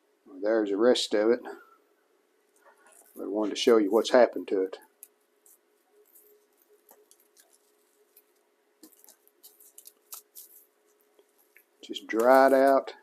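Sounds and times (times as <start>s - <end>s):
crackling of crumbling foam: 2.5s - 13.0s.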